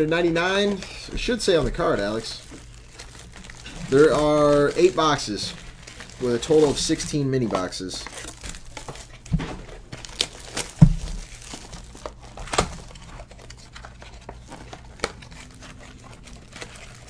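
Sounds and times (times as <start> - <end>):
crinkling wrappers: 0.0 - 17.0.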